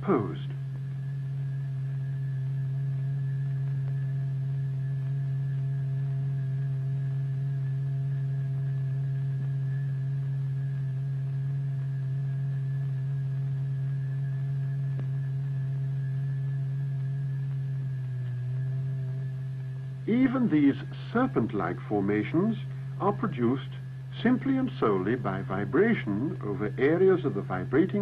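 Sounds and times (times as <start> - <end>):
low electronic tone: 0.0 - 28.0.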